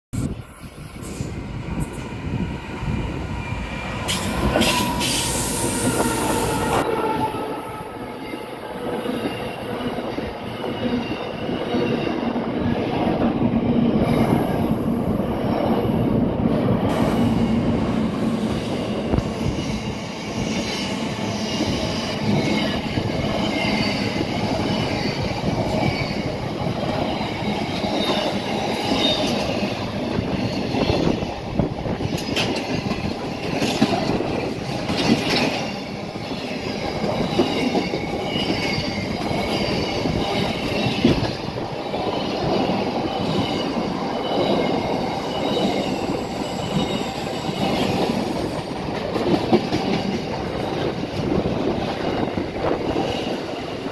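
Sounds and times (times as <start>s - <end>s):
train wheels squealing: 0.2s - 12.3s, 18.2s - 53.9s
freight train rumbling past: 0.2s - 53.9s.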